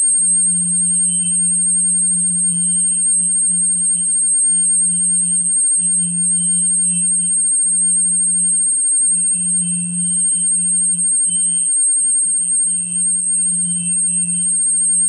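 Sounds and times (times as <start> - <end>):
faint high-pitched whine: 0.0 - 15.0
pulsing middle tone: 0.0 - 15.0
steady low hum: 0.0 - 15.0.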